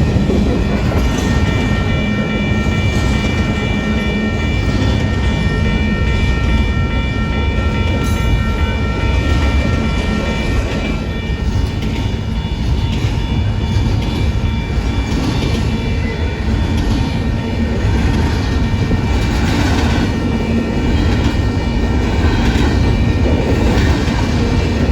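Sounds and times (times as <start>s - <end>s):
high ringing tones: 0.0s - 24.9s
train wheels rumbling on rail: 0.0s - 24.9s.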